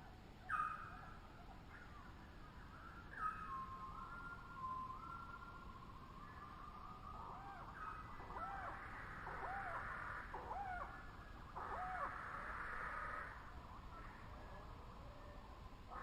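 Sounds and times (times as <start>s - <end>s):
faint background birdsong: 0.0s - 16.0s.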